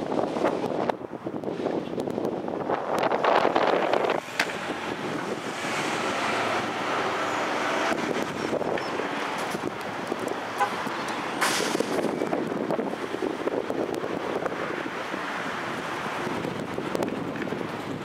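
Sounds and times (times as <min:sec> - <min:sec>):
tyre and road noise: 0:00.0 - 0:18.0
wind buffeting microphone: 0:00.0 - 0:18.0.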